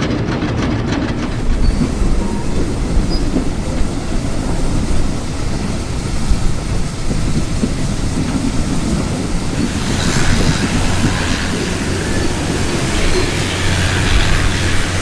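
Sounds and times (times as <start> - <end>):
train wheels rattling on rails: 0.0 - 15.0.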